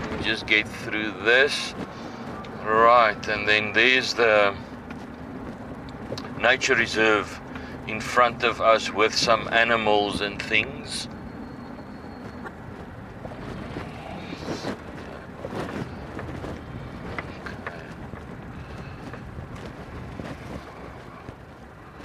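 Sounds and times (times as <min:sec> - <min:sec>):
low engine and tyre rumble: 0:00.0 - 0:22.0
vehicle knocks and rattles: 0:00.0 - 0:22.0.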